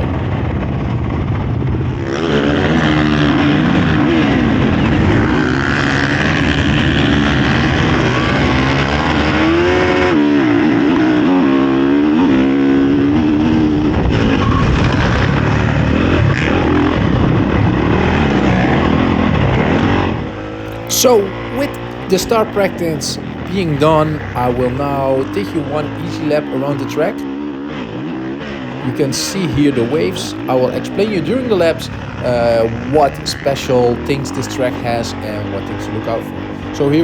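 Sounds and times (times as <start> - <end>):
motocross engine revving: 0.0 - 37.0.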